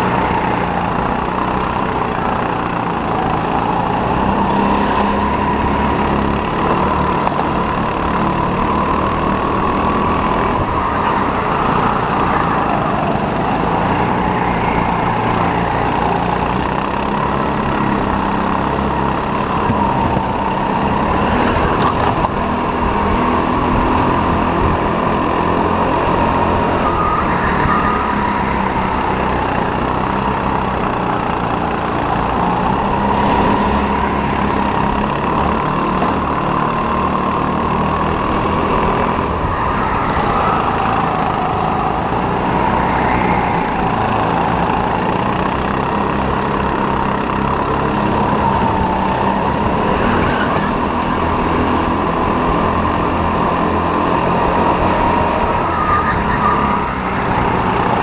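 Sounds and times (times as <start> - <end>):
racing kart engine drone: 0.0 - 58.0.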